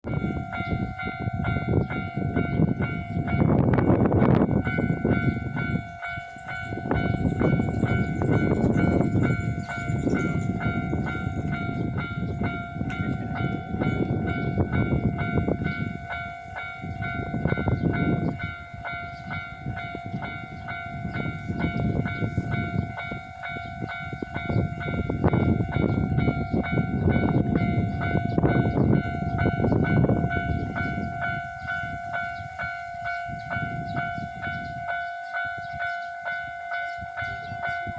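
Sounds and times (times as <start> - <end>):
electric train rumbling on rails: 0.0 - 37.9.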